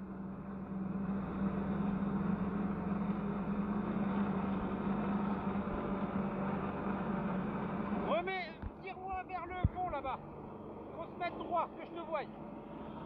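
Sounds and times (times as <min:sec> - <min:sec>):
jet ski engine drone: 0:00.0 - 0:13.0.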